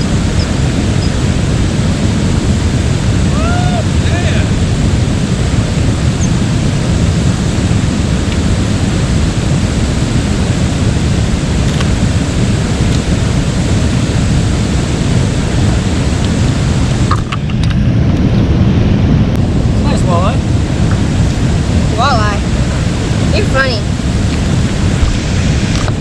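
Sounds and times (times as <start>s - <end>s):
river rapids rushing: 0.0s - 17.2s, 19.5s - 26.0s.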